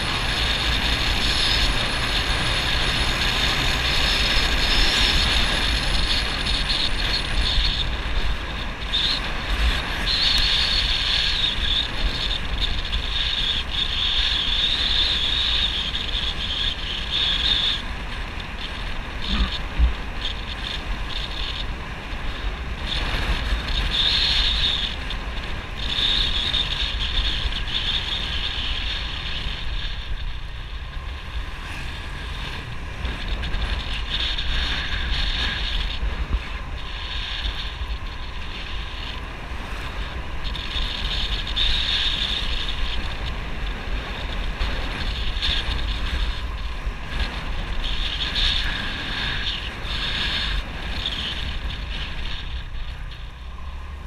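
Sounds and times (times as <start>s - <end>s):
motorbike engine rumble: 0.0s - 54.0s
wind buffeting microphone: 0.0s - 54.0s.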